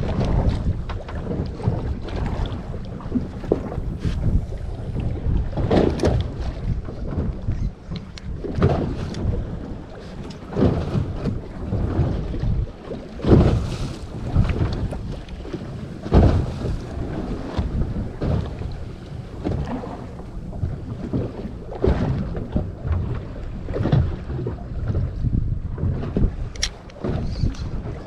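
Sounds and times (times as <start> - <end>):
water washing against hull: 0.0 - 28.0
wind buffeting microphone: 0.0 - 28.0.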